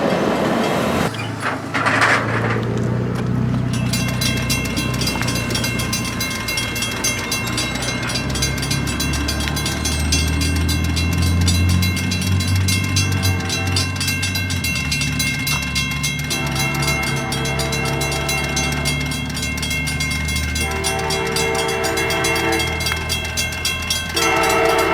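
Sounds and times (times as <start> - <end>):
diesel locomotive rumble: 0.0 - 24.9
fast even ticking: 3.7 - 24.9
high ringing: 3.7 - 24.9.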